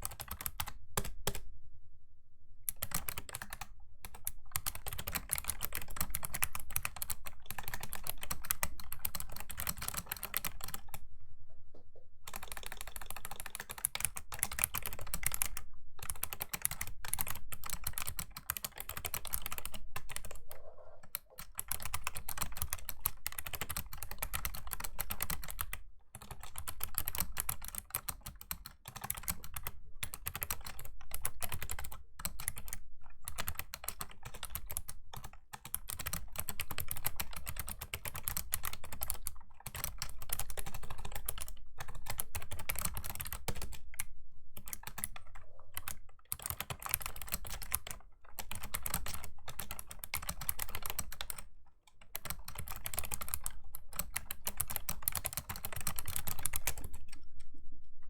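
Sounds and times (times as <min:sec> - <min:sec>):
fast typing on keyboard: 0:00.0 - 0:01.4, 0:02.7 - 0:11.0, 0:12.3 - 0:57.2.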